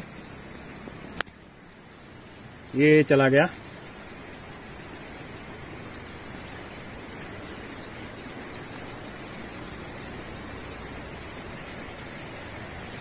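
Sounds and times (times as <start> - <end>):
background hiss: 0.0 - 13.0
crickets chirring: 0.0 - 13.0.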